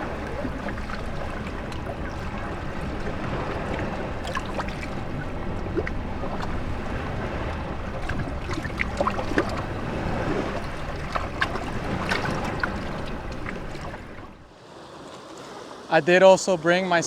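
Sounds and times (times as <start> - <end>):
water bubbling and dripping: 0.0 - 14.5
wind rumble on microphone: 0.0 - 14.5
waves washing between rocks: 0.0 - 15.9.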